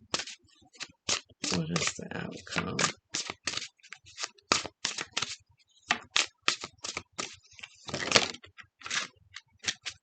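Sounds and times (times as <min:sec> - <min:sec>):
cards slapping and flicking: 0:00.1 - 0:01.9, 0:02.7 - 0:10.0
cards rustling shuffle: 0:00.1 - 0:10.0.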